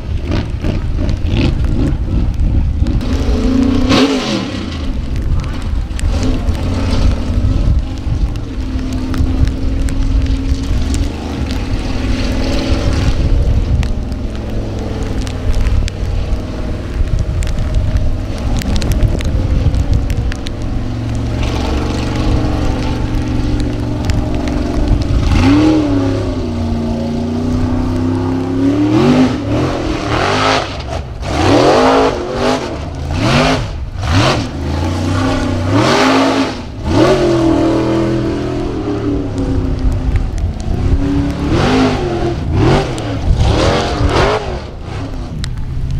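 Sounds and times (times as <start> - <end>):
buggy engine revving: 0.0 - 45.9.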